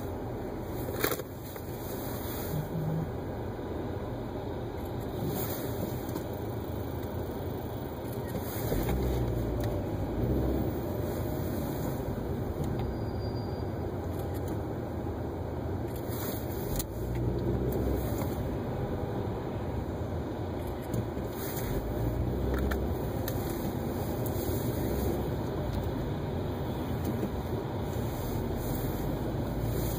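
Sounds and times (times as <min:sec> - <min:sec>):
car road and engine rumble: 0:00.0 - 0:29.9.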